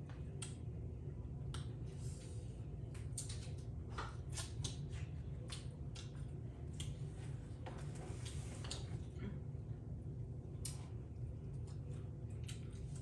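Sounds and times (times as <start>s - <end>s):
chewing and handling wet food: 0.0s - 13.0s
steady low hum: 0.0s - 13.0s.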